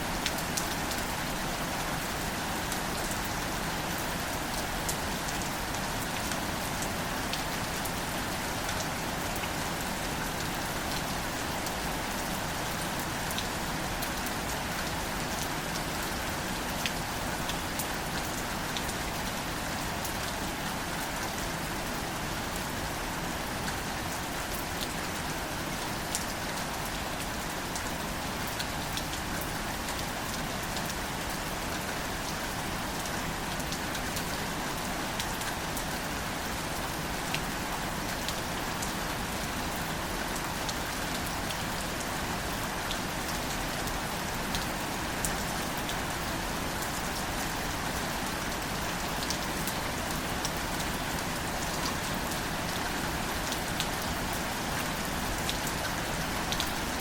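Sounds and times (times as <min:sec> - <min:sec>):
gentle rain: 0:00.0 - 0:57.0.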